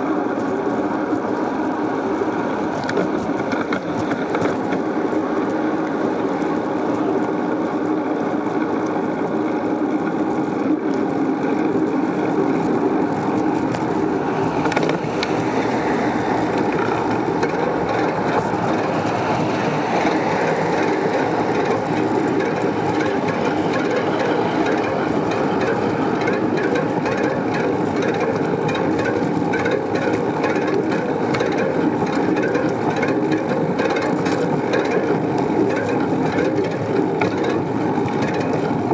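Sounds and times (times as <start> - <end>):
bicycle tyre and road rumble: 0.0 - 38.9.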